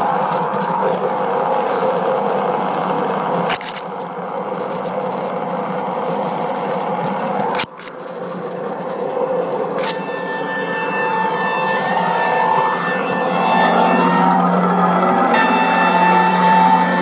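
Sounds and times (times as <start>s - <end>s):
model train hum and rumble: 0.0s - 17.0s
wheels clicking over rail joints: 0.0s - 17.0s.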